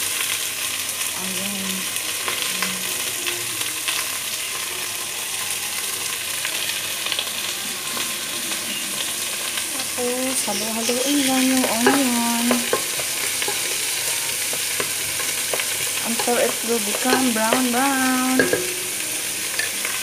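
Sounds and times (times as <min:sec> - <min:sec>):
chicken and onions sizzling: 0:00.0 - 0:20.0.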